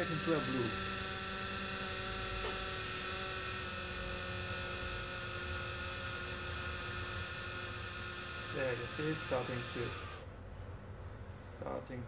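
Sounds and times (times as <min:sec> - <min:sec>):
induction cooker electrical hum: 0:00.0 - 0:12.0.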